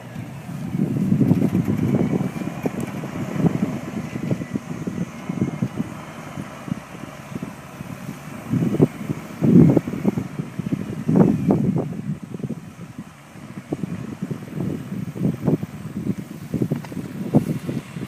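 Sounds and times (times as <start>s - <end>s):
tractor engine running: 0.0s - 18.0s
wind buffeting microphone: 0.0s - 18.0s.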